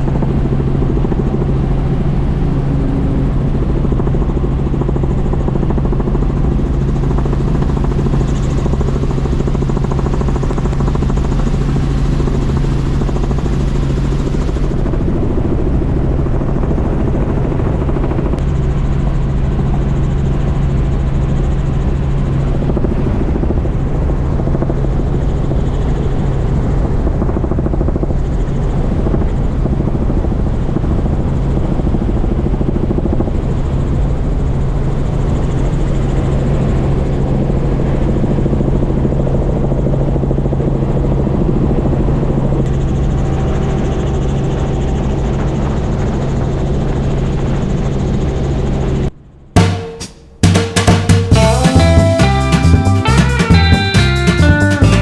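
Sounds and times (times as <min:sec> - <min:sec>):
helicopter engine and rotor drone: 0:00.0 - 0:49.5.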